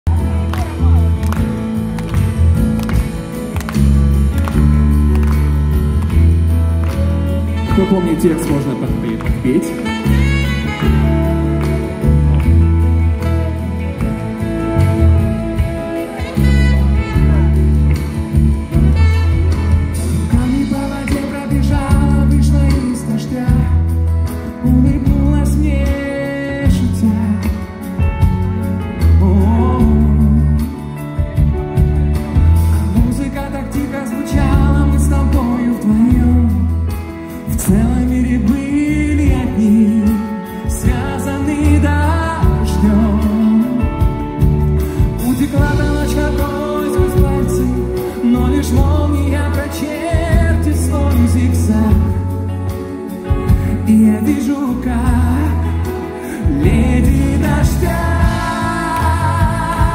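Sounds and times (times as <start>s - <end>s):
amplified backing music: 0.0s - 59.9s
man singing a ballad: 6.0s - 31.8s, 32.7s - 59.9s.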